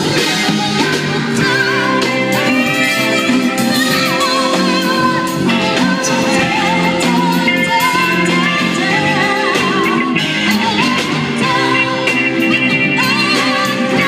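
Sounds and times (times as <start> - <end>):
band playing: 0.0 - 14.0
person singing: 0.0 - 14.0.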